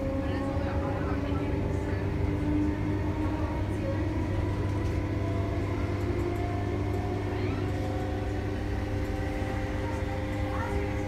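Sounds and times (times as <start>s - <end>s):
steady tonal hum: 0.0s - 11.0s
train rumbling: 0.0s - 11.0s.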